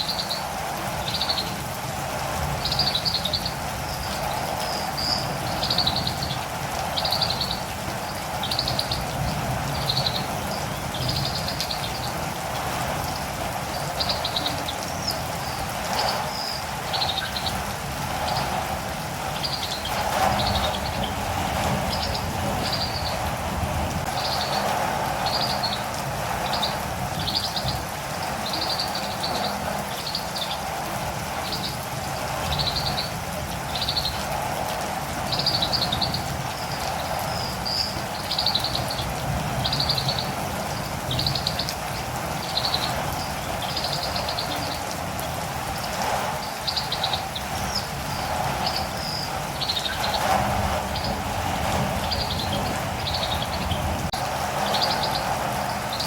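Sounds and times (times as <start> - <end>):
rain patter: 0.0 - 56.0
bird chirping: 2.6 - 12.2, 13.1 - 17.6, 19.3 - 23.3, 24.1 - 30.7, 32.5 - 34.2, 35.3 - 44.9, 46.4 - 56.0.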